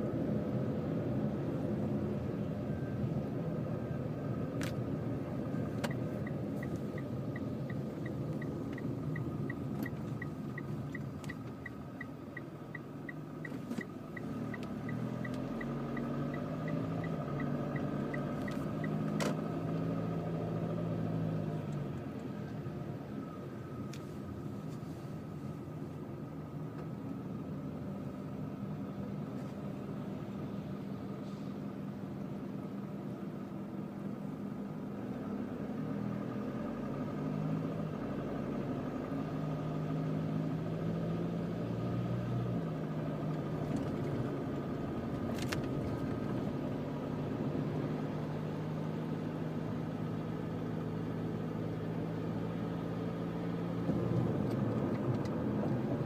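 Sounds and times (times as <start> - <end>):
diesel engine and road noise: 0.0 - 56.0.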